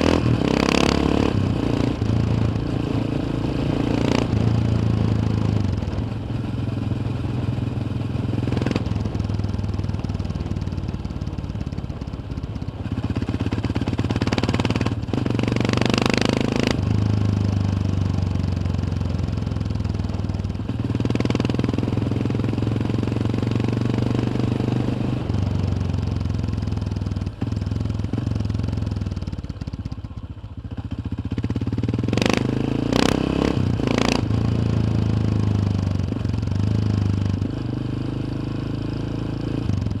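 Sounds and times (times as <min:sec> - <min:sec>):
motorcycle engine revving: 0:00.0 - 0:11.8, 0:12.8 - 0:29.4, 0:30.9 - 0:40.0.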